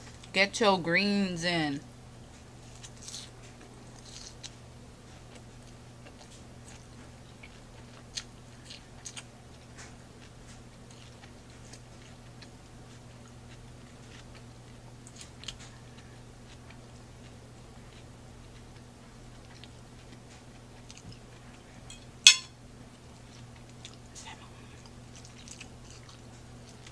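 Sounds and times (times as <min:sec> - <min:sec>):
steady low hum: 0:00.0 - 0:26.9
person chewing salad: 0:02.6 - 0:22.0, 0:23.1 - 0:26.9.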